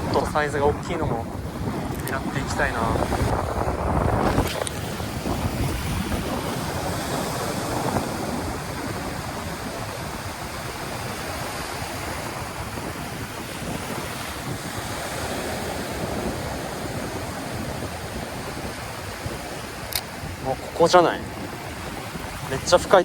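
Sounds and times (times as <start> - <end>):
waves breaking on beach: 0.0 - 23.0
wind buffeting microphone: 0.0 - 23.0.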